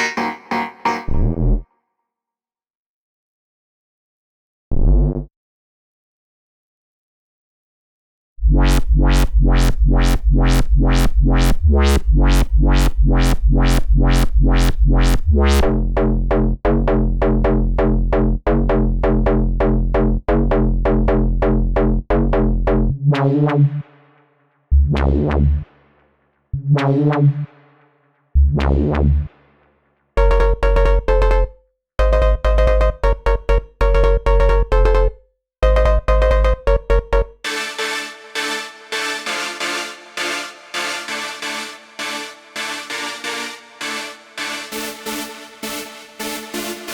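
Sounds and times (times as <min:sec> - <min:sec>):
bass-heavy synth electronic music: 0:00.0 - 0:01.6, 0:04.7 - 0:05.3, 0:08.4 - 0:23.9, 0:24.7 - 0:25.9, 0:26.6 - 0:27.6, 0:28.4 - 0:29.6, 0:30.2 - 0:46.9.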